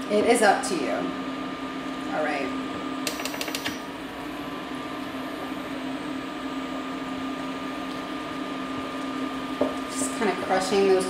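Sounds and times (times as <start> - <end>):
appliance hum with fan noise: 0.0 - 11.0.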